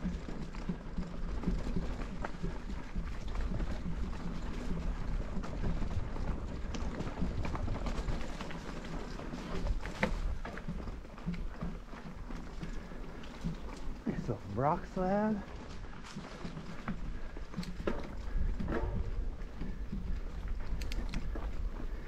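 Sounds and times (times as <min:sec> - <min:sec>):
bike clicks and rattles: 0:00.0 - 0:22.0
tyres rumbling on dirt: 0:00.0 - 0:22.0.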